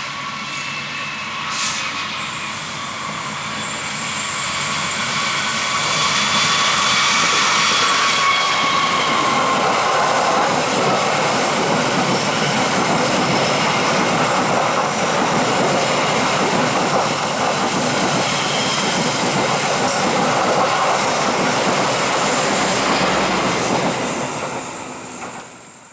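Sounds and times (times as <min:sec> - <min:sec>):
faint high squeal: 0:00.0 - 0:25.9
train wheels rolling on rails: 0:00.1 - 0:25.9.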